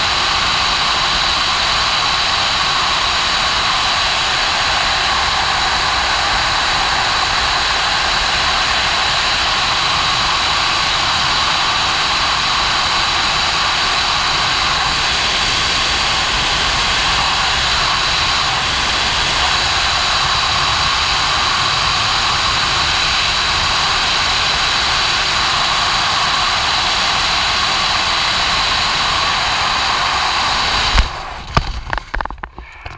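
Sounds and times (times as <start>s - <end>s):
rush of freefall airflow: 0.0s - 32.5s.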